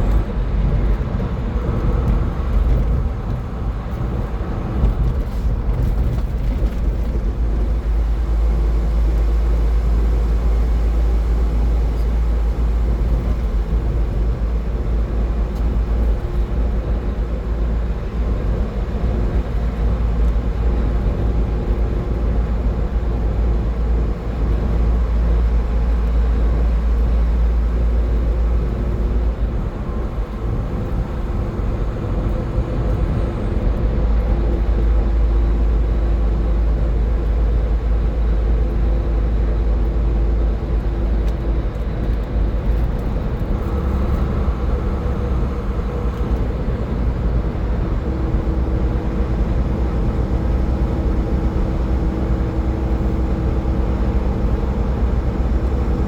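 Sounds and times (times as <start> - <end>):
car engine rumble at speed: 0.0 - 56.0.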